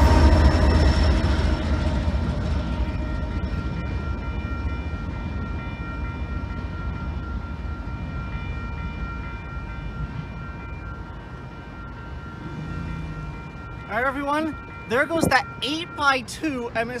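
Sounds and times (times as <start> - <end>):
freight train rumble: 0.0 - 17.0
high-pitched ringing tones: 0.0 - 17.0.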